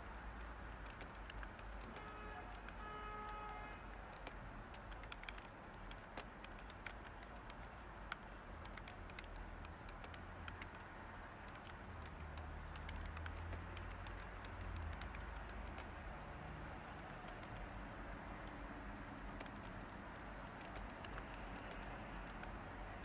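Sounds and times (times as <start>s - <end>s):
typing on computer keyboard: 0.3s - 23.0s.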